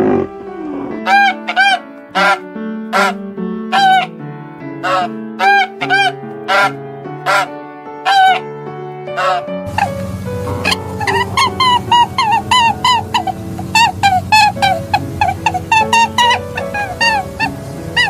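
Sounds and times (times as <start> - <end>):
bird calling: 0.0 - 4.1, 4.8 - 7.5, 8.1 - 8.4, 9.1 - 18.0
soft background music: 0.0 - 18.0.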